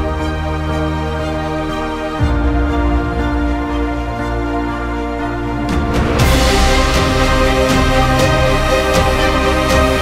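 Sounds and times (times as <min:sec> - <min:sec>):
cinematic orchestral music: 0:00.0 - 0:10.0.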